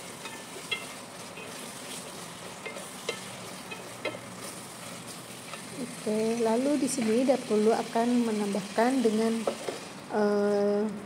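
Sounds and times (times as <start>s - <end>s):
chicken sizzling in oil: 0.0s - 10.1s.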